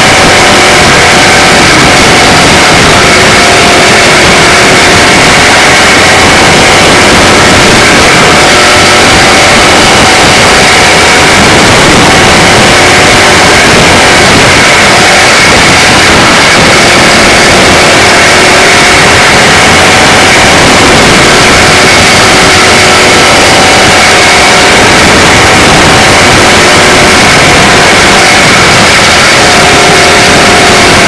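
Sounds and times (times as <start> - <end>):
race car engine running hard: 0.0 - 31.0.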